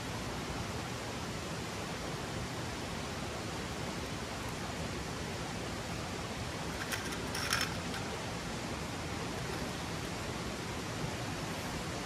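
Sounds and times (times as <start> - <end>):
gushing stream: 0.0 - 12.0.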